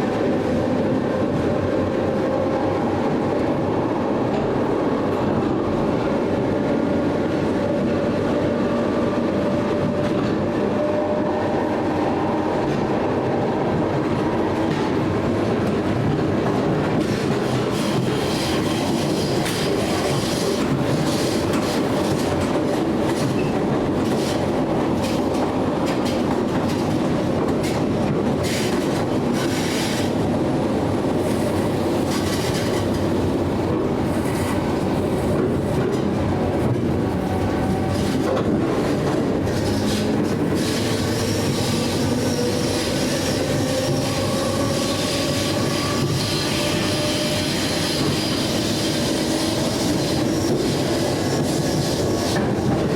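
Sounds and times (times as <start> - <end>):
train wheels rumbling: 0.0 - 52.9
rail joint clicks: 6.9 - 52.9.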